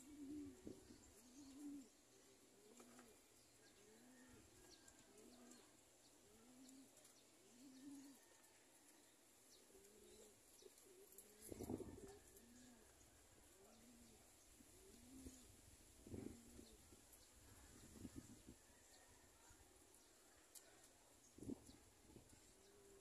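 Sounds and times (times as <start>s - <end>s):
pigeons cooing: 0.0s - 8.6s, 9.5s - 19.6s, 20.5s - 23.0s.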